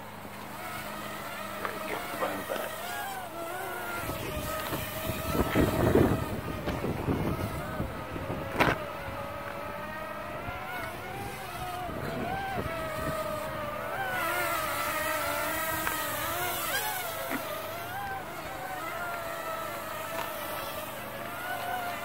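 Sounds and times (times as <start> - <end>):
mini drone buzzing whine: 0.0 - 22.0.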